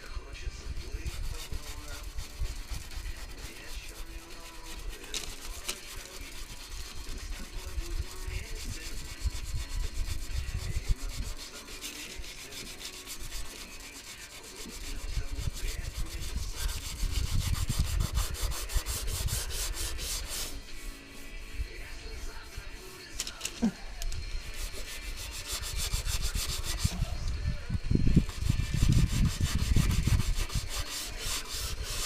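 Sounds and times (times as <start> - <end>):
sanding car bodywork: 0.6 - 23.1, 24.4 - 27.2, 28.1 - 32.0.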